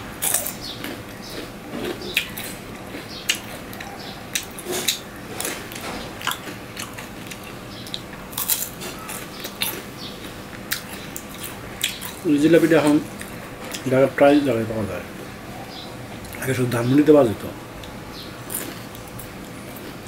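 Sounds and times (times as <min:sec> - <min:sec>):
crunchy chewing: 0:00.1 - 0:14.0, 0:17.8 - 0:20.0.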